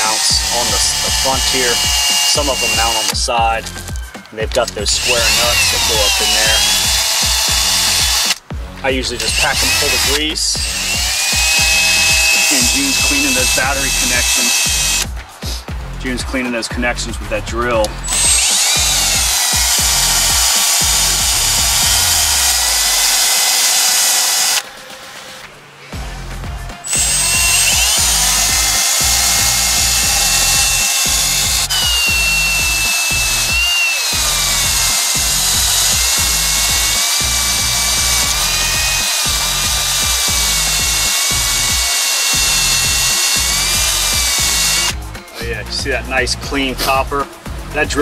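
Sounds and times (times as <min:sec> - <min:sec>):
drill wire brush whining and scratching: 0:00.0 - 0:15.6, 0:17.8 - 0:24.7, 0:26.7 - 0:45.4.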